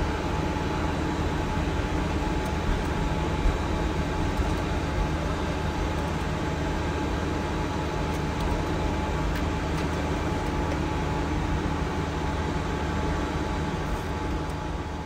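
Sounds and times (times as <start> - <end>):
aircraft cockpit hum and hiss: 0.0 - 15.0.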